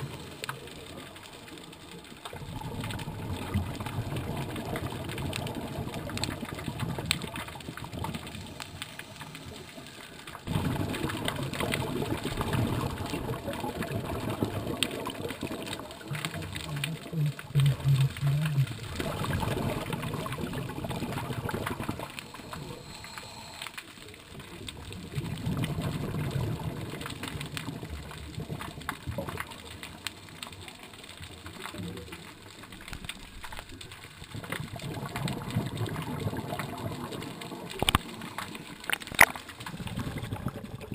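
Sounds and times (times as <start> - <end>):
underwater bubbles rushing: 0.0 - 40.9.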